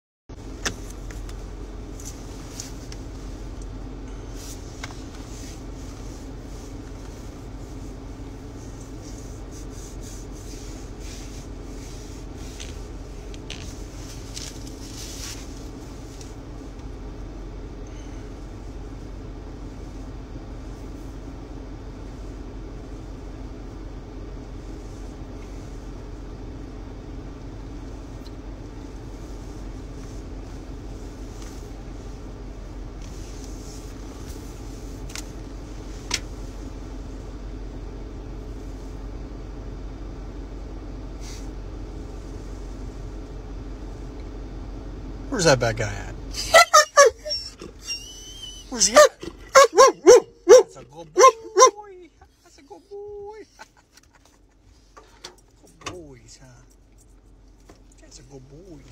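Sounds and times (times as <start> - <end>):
car cabin running hum: 0.3 - 58.9.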